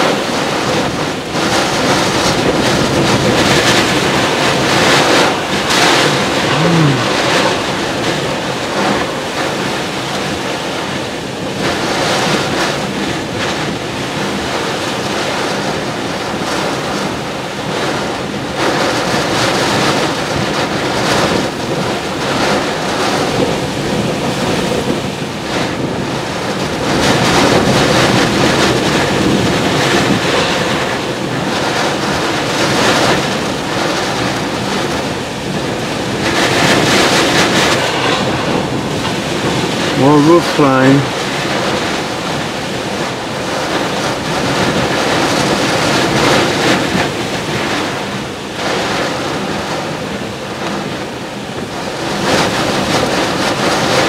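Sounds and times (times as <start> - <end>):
wind gusts on microphone: 0.0 - 54.0
wind-driven rain: 0.0 - 54.0.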